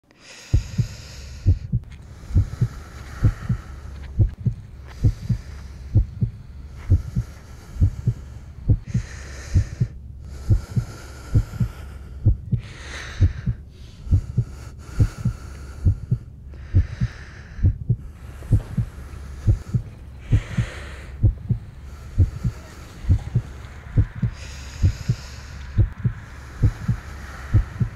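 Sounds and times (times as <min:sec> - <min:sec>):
heartbeat thumps: 0:00.5 - 0:27.9.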